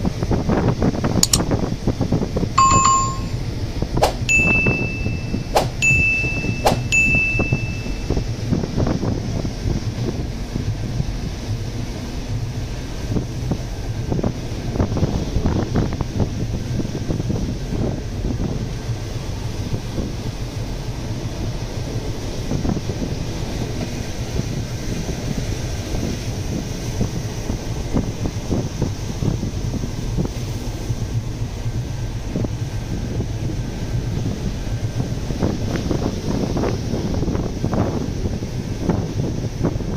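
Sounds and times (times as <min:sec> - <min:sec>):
rough sea rushing: 0:00.0 - 0:39.9
steady low rumble: 0:00.0 - 0:39.9
wind buffeting microphone: 0:00.0 - 0:39.9.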